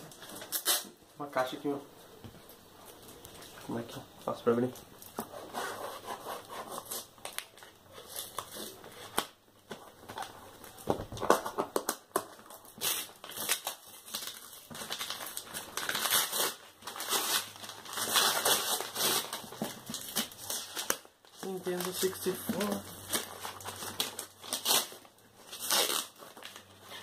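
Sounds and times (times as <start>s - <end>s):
paper wrapping tearing and crinkling: 0.0s - 1.6s, 4.9s - 27.0s.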